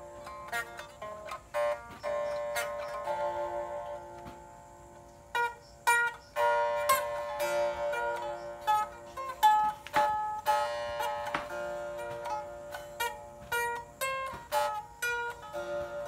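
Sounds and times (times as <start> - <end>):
plucked lute melody: 0.0 - 16.0.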